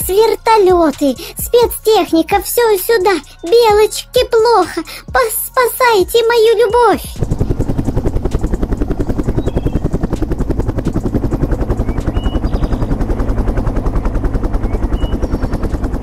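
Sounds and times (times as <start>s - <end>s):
helicopter engine drone: 0.0s - 16.0s
helicopter rotor blades chopping: 0.0s - 16.0s.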